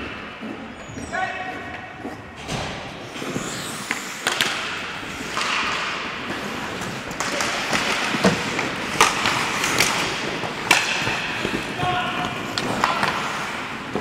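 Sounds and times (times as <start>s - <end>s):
hockey sticks and puck clacking: 0.0s - 14.0s
skates scraping ice: 0.0s - 14.0s.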